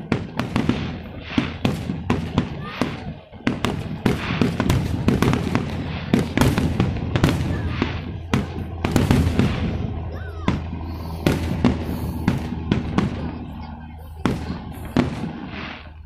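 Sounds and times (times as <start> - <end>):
fireworks bangs: 0.0 - 16.0
fireworks rumble: 0.0 - 16.0.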